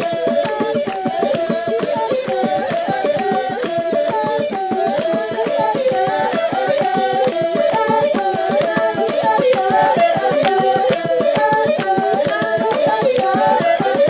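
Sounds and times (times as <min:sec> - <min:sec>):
fast percussive pulse: 0:00.0 - 0:14.0.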